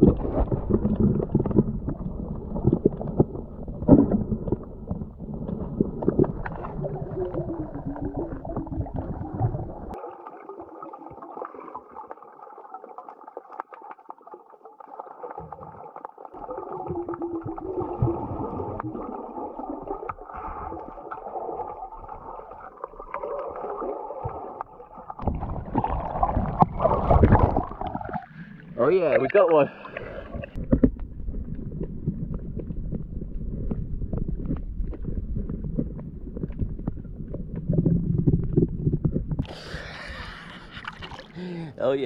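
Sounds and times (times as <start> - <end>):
underwater rush with gurgling: 0.0 - 42.0.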